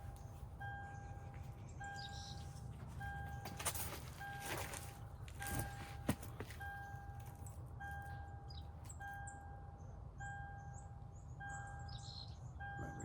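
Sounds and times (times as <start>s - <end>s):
vehicle warning chime beeping: 0.0s - 13.0s.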